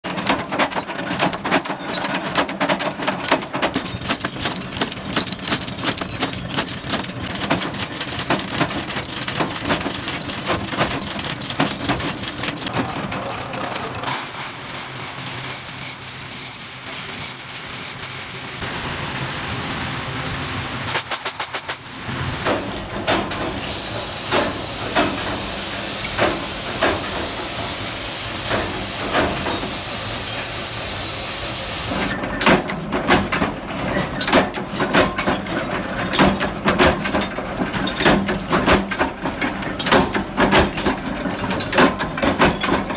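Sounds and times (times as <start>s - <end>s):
metal stamping presses clattering: 0.0s - 18.4s, 20.9s - 29.7s, 31.9s - 42.9s.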